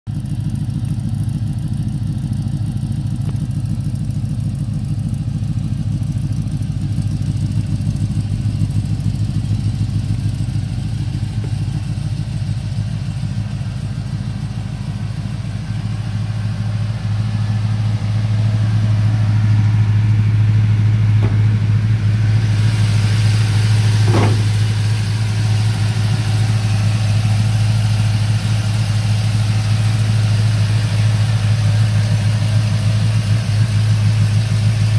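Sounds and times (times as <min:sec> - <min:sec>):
engine idling with pulsing exhaust: 0:00.1 - 0:34.9.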